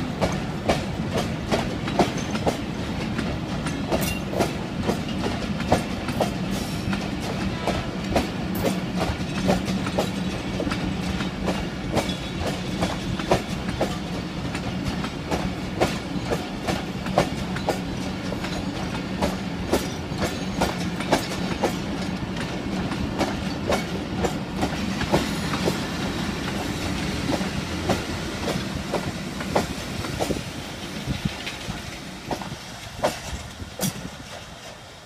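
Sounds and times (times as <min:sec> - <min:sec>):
train rolling rumble: 0:00.0 - 0:35.0
train wheels clicking over rail joints: 0:00.0 - 0:35.0.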